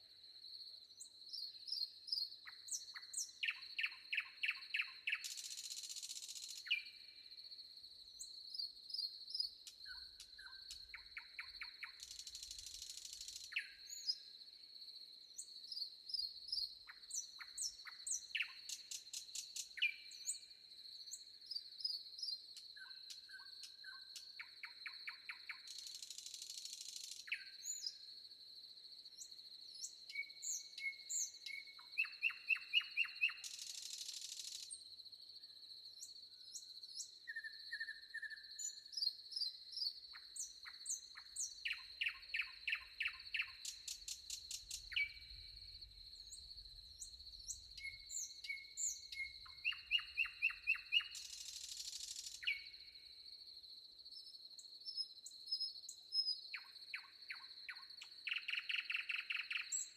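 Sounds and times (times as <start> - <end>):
songbirds chirping and trilling: 1.0 - 7.4, 8.0 - 14.6, 15.2 - 28.1, 29.1 - 53.0, 54.0 - 59.9.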